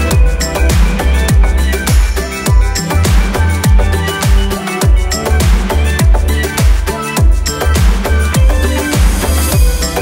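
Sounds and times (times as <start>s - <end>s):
deep bass line: 0.0s - 10.0s
kick-drum beat: 0.1s - 10.0s.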